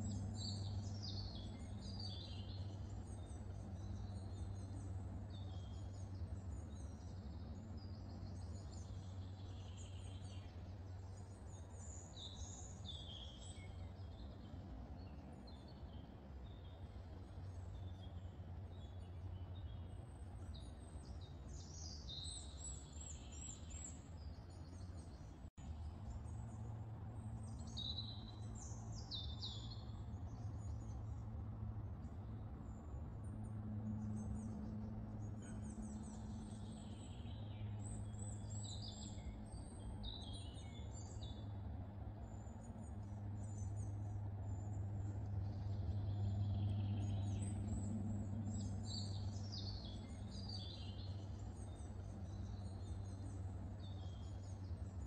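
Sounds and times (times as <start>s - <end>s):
low background hum: 0.0s - 55.0s
songbirds chirping and trilling: 0.0s - 55.0s.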